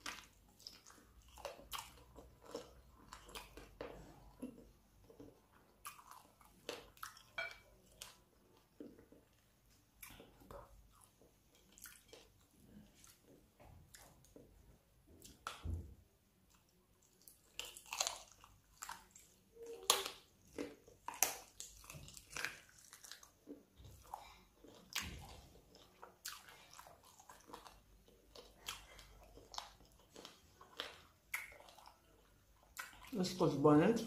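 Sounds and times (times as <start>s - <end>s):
person chewing with wet crunches: 0.0s - 34.0s.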